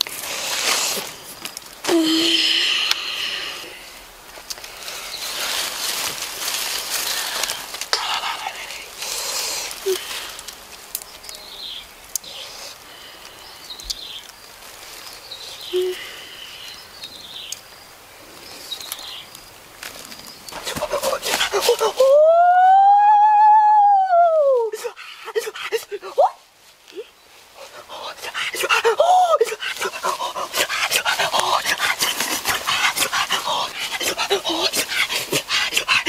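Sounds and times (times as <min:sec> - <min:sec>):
rustling in leaves: 0:00.0 - 0:36.0.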